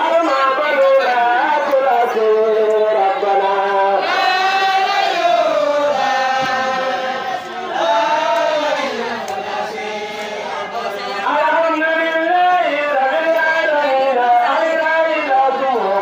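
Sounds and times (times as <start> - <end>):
voices chanting in unison: 0.1 - 16.0.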